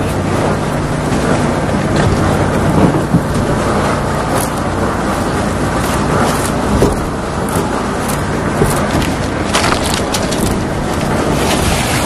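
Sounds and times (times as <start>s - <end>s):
engine humming: 0.0s - 12.0s
wind buffeting microphone: 0.0s - 12.0s.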